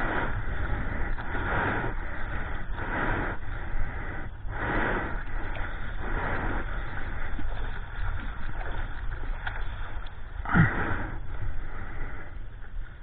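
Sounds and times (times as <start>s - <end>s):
water sloshing around surfboard: 0.0s - 13.0s
wind rumble on microphone: 0.0s - 13.0s.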